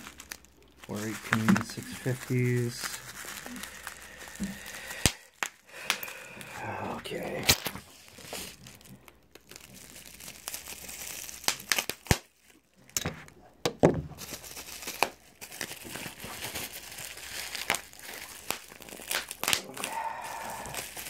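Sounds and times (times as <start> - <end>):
loud packaging crackle: 0.0 - 13.1, 14.1 - 21.0
packaging crinkling and tearing: 0.0 - 13.3, 14.1 - 21.0.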